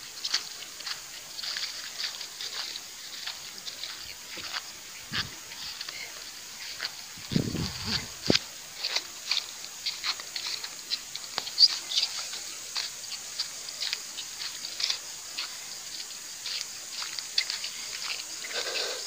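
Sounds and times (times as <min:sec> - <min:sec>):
dry leaves rustling and crackling: 0:00.0 - 0:19.0
high insect hum: 0:00.0 - 0:19.0.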